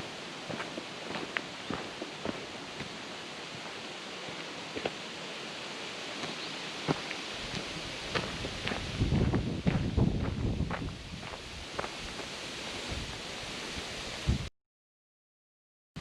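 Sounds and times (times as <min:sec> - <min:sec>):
footsteps on trail: 0:00.0 - 0:13.3
wind hiss: 0:00.0 - 0:14.5.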